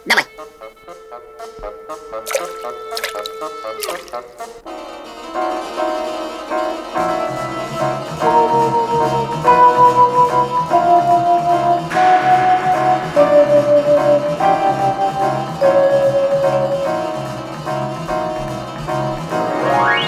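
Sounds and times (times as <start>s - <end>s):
cartoon background music: 0.0s - 20.0s.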